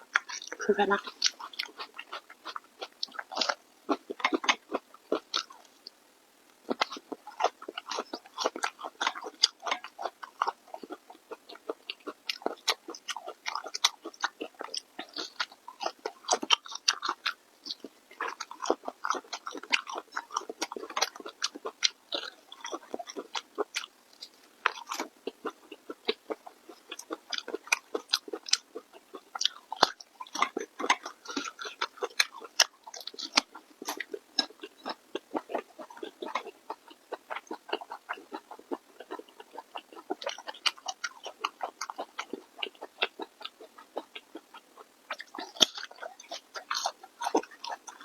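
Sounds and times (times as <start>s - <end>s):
person chewing food: 0.0s - 6.0s, 6.6s - 48.0s.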